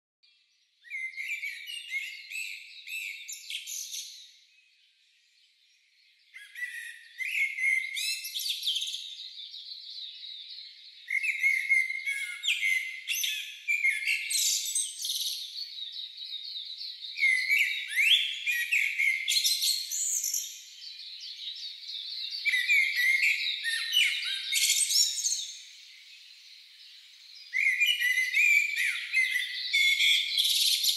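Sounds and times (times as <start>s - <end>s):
sparrows chirping: 0.3s - 30.9s.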